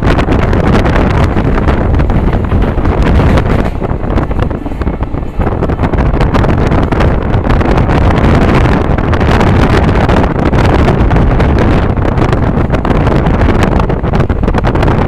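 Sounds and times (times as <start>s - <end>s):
train rumbling on track: 0.0s - 15.0s
wind buffeting microphone: 0.0s - 15.0s.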